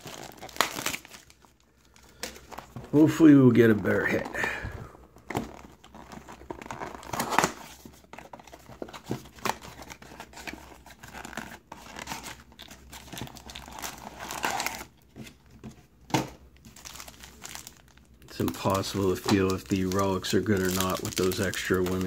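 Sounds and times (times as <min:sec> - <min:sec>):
card pack wrapper crinkling and tearing: 0:00.0 - 0:15.0, 0:16.6 - 0:22.0.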